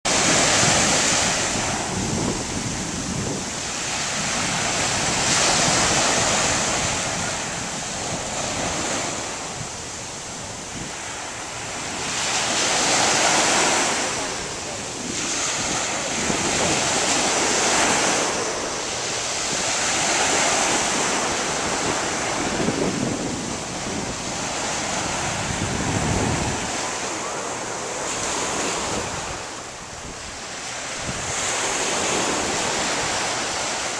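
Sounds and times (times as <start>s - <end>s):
waves breaking and washing in: 0.1s - 33.9s
wind buffeting microphone: 0.1s - 33.9s.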